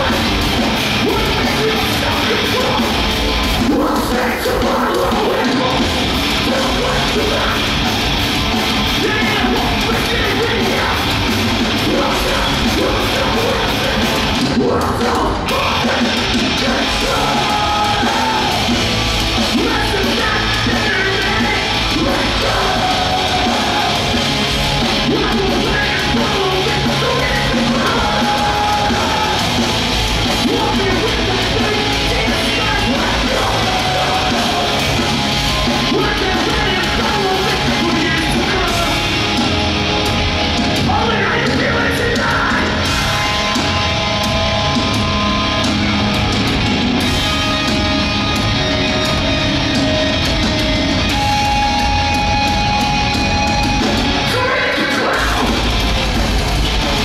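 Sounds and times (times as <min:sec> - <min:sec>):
bass guitar: 0:00.0 - 0:57.0
distorted electric guitars: 0:00.0 - 0:57.0
drums: 0:00.0 - 0:57.0.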